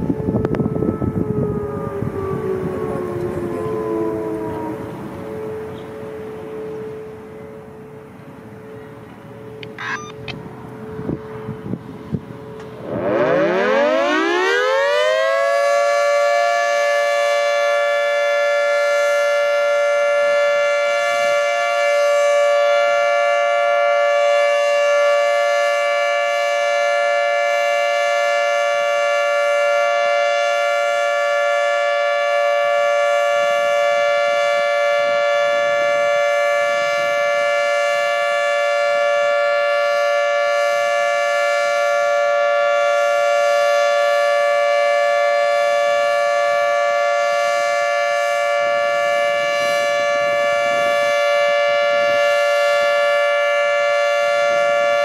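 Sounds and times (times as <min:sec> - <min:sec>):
two-tone warning siren: 0:00.0 - 0:55.0.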